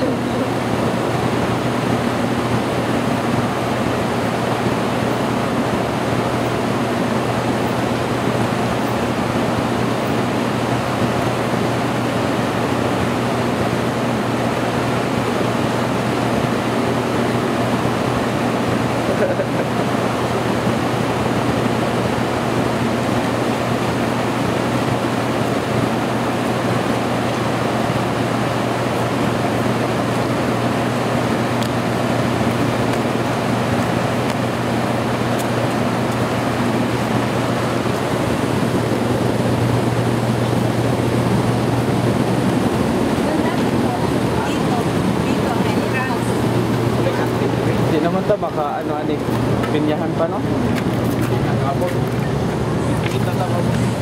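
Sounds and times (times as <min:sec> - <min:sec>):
low steady hum: 0:00.0 - 0:54.0
rushing water roar: 0:00.0 - 0:54.0.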